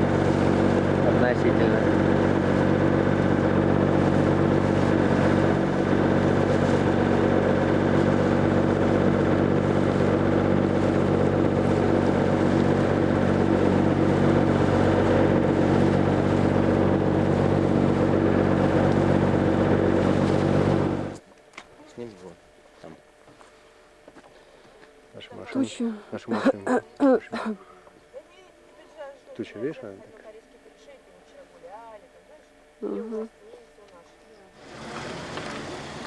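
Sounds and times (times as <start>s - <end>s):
boat engine droning: 0.0s - 21.3s, 21.9s - 36.0s.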